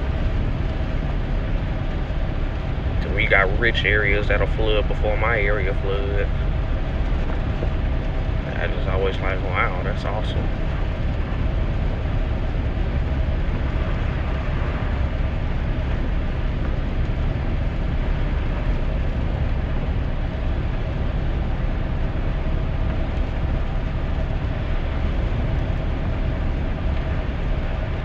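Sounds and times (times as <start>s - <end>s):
faint steady hum: 0.0s - 28.0s
rain and wet tyres hissing: 0.0s - 28.0s
road rumble: 0.0s - 28.0s.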